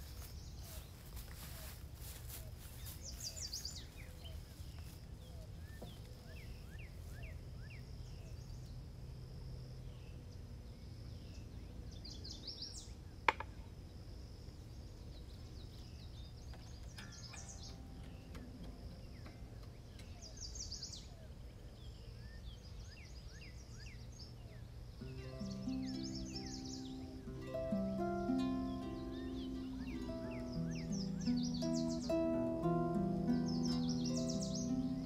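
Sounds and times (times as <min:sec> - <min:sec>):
birds chirping and singing: 0:00.0 - 0:08.9, 0:14.6 - 0:35.0.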